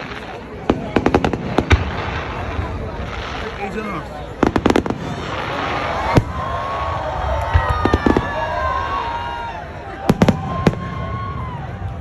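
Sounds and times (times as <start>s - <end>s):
firework bang: 0.0s - 9.0s, 10.0s - 11.4s
firework cracks: 0.0s - 12.0s.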